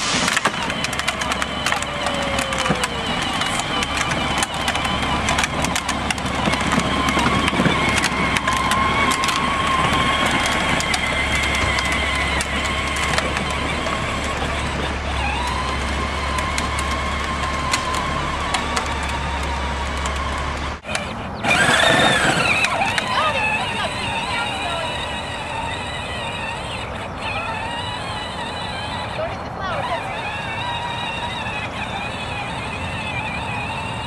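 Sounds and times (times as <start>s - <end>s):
toy tractor motor whining: 0.0s - 34.0s.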